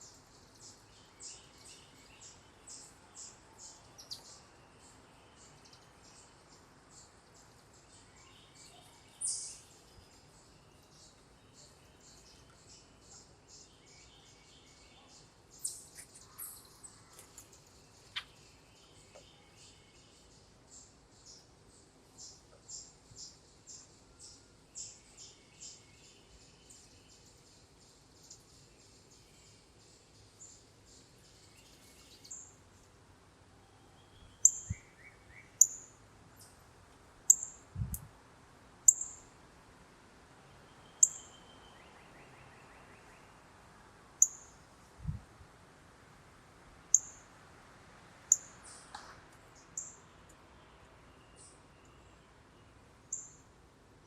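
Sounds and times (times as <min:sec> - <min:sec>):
songbird chirping: 0:00.0 - 0:45.2, 0:46.9 - 0:54.0.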